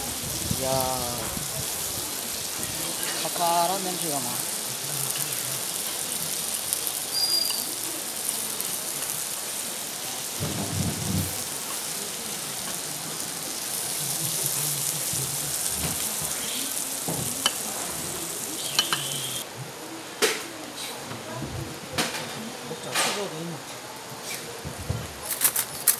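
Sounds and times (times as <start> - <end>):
food sizzling on hot stone platter: 0.0 - 25.9.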